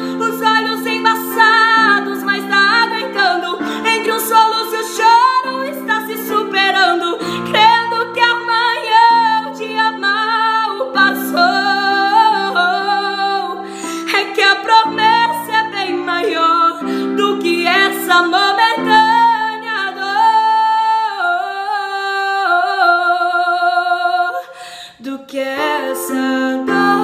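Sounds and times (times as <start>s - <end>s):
woman singing with vibrato: 0.0s - 27.0s.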